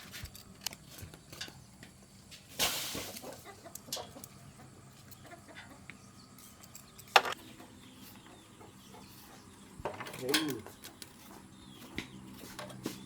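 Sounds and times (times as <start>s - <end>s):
chickens clucking: 1.3s - 13.0s.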